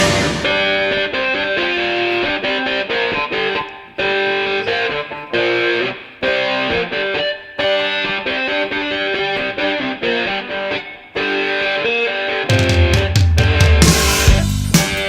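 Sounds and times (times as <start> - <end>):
distorted electric guitar riff: 0.0 - 15.0.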